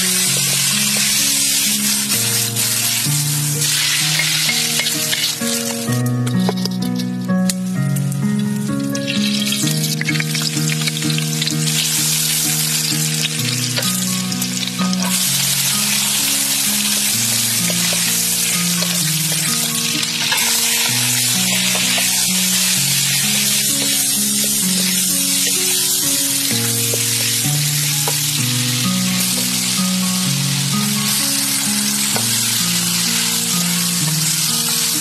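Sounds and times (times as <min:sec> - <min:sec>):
oil sizzling in a wok: 0:00.0 - 0:35.0
slow background music: 0:00.0 - 0:35.0.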